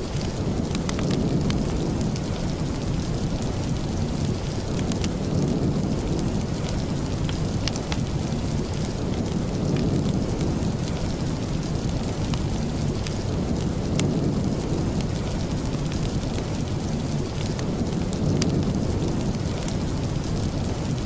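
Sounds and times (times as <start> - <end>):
heavy low rumble: 0.0 - 21.0
steady rain: 0.0 - 21.0.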